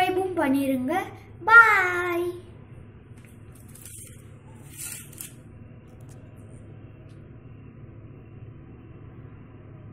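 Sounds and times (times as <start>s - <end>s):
faint low room hum: 0.0s - 9.9s.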